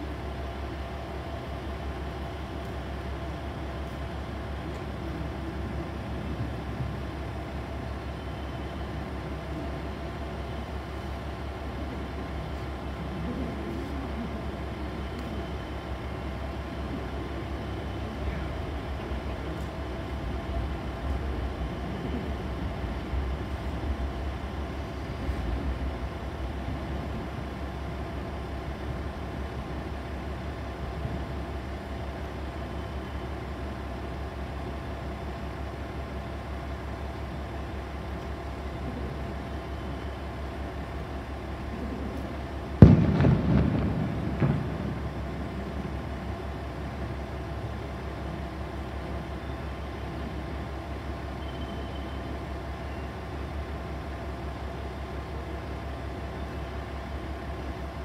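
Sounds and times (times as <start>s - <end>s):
diesel railcar idling: 0.0s - 58.0s.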